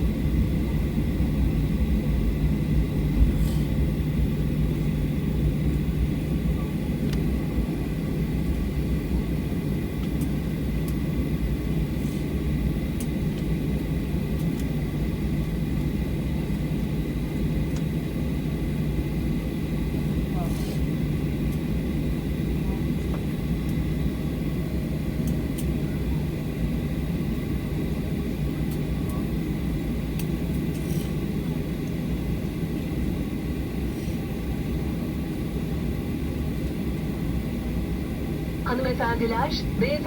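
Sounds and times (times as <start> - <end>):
low engine rumble in cabin: 0.0 - 40.0.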